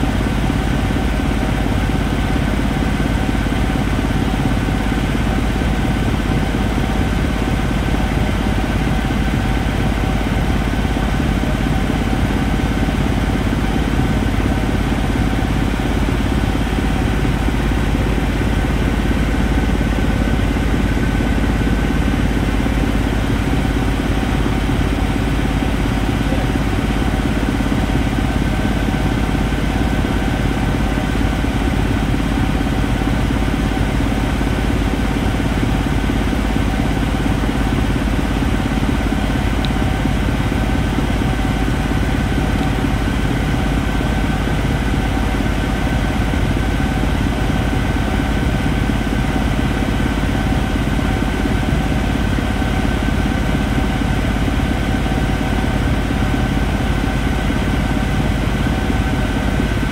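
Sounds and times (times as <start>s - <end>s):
light aircraft engine drone in cockpit: 0.0s - 59.9s.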